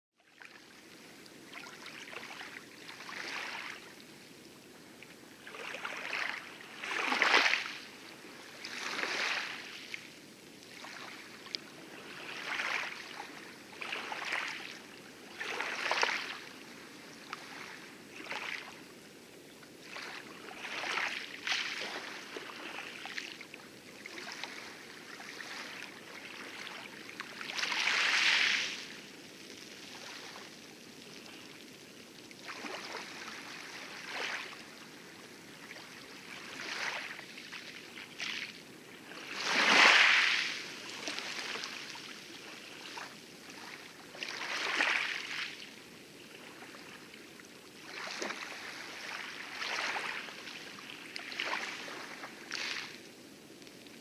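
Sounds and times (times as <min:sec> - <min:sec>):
waves lapping: 0:00.3 - 0:54.0.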